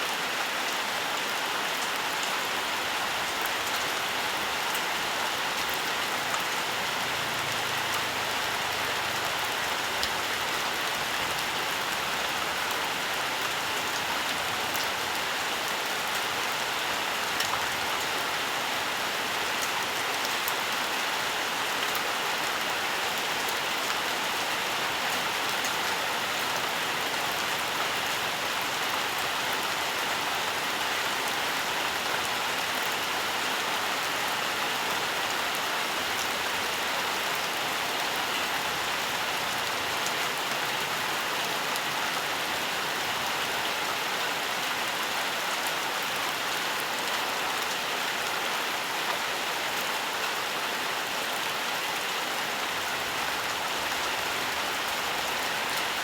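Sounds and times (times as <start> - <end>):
rain pattering on surfaces: 0.1 - 56.0.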